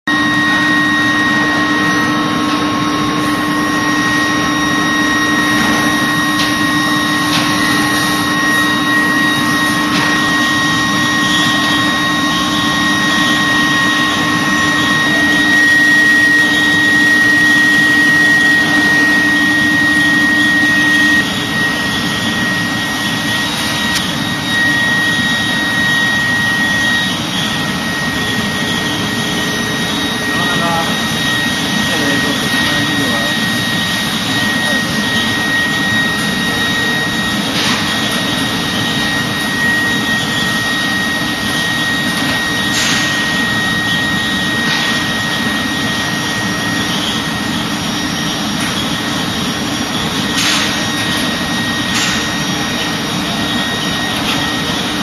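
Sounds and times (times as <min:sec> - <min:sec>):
blower air rushing: 0:00.1 - 0:55.0
constant whining tones: 0:00.1 - 0:55.0.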